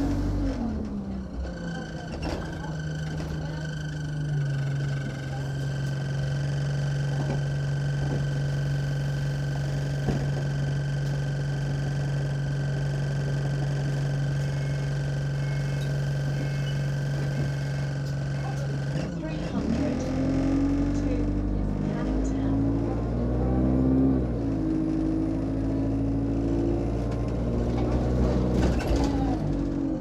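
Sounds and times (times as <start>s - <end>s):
bus diesel engine idling: 0.0s - 30.0s.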